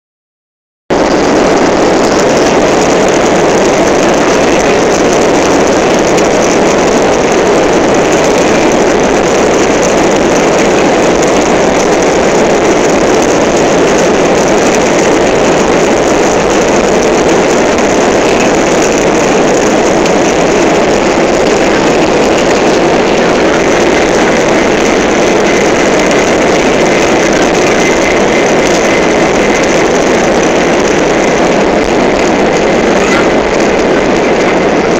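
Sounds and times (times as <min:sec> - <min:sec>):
jet engines inside cabin: 0:00.9 - 0:34.9.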